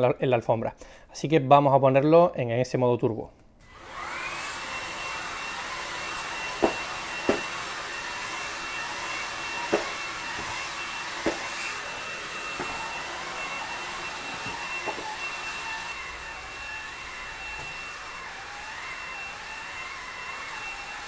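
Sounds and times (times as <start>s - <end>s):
vacuum motor whine: 3.6s - 21.0s.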